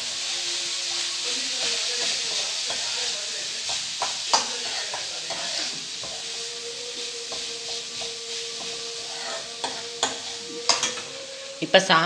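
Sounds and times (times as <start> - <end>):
light sizzle: 0.0 - 12.0
spoon scraping and knocking pan: 1.2 - 11.6.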